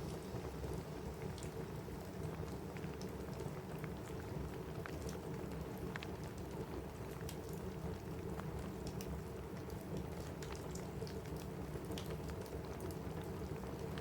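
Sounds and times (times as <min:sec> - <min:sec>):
rain on a roof: 0:00.0 - 0:14.0.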